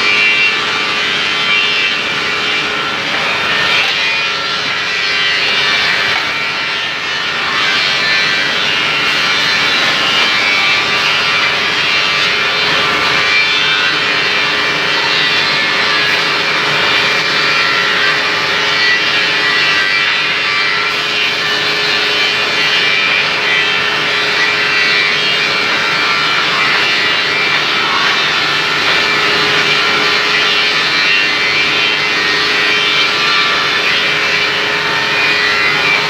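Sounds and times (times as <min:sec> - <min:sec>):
floor sanding machine: 0:00.0 - 0:36.0.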